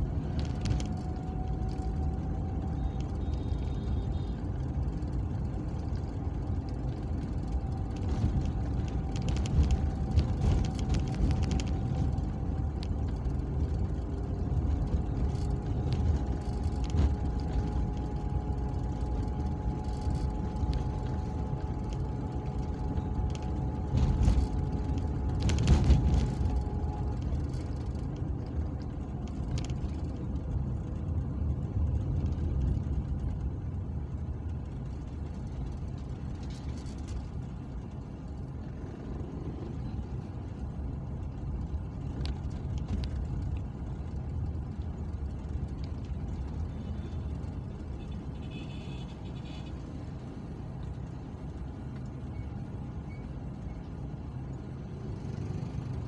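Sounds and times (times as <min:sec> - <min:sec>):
engine and road rumble: 0:00.0 - 0:56.0
faint whine: 0:00.0 - 0:56.0.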